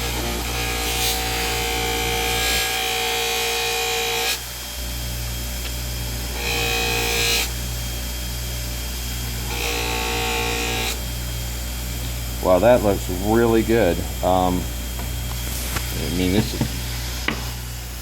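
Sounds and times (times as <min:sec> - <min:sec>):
buffer motor hum: 0:00.0 - 0:18.0.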